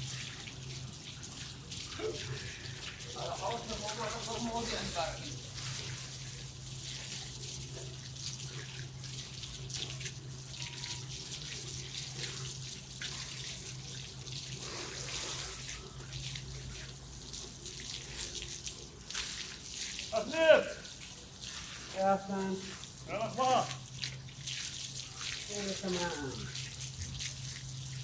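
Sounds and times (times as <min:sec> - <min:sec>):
shower spray splashing: 0:00.0 - 0:28.0
steady low hum: 0:00.0 - 0:28.0.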